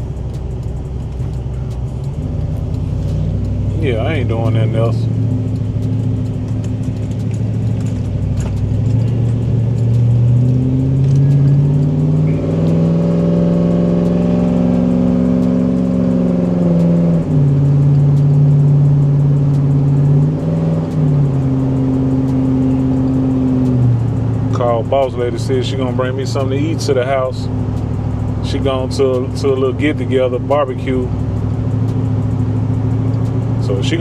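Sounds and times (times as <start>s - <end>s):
car engine from inside cabin: 0.0s - 34.0s.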